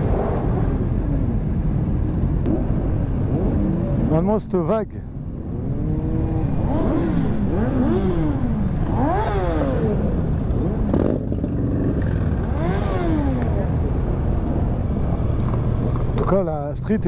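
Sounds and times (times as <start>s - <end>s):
rumble of many engines: 0.0s - 17.0s.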